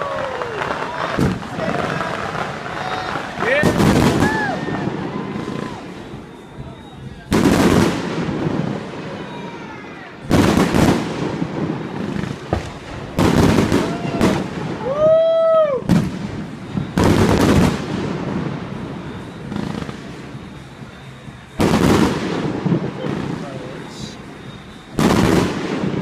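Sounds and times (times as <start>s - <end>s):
firework whistle: 0.0s - 26.0s
fireworks bangs with echo: 0.0s - 26.0s.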